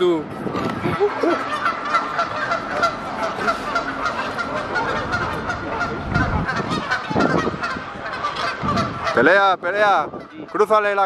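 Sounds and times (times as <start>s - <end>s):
geese honking: 0.4s - 11.0s.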